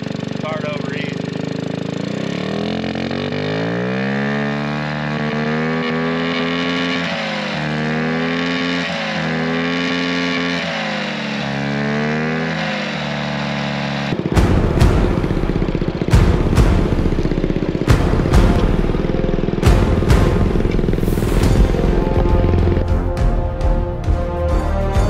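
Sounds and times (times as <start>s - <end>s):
scooter engine revving: 0.0s - 23.2s.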